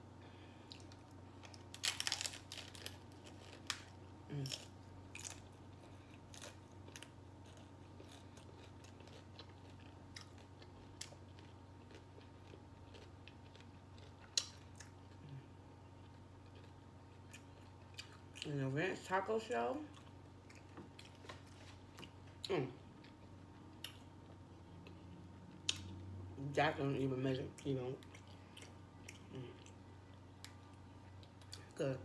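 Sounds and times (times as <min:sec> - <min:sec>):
crunchy taco being chewed: 0:00.4 - 0:18.5, 0:19.9 - 0:26.3, 0:27.5 - 0:31.8.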